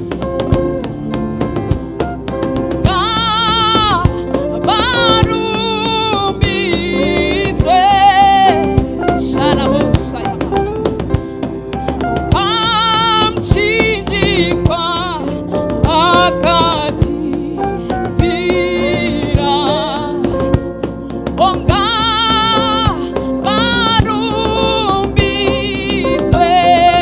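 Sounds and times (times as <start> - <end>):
band with drums and guitar: 0.0 - 27.0
person singing with vibrato: 2.9 - 10.8, 12.4 - 27.0.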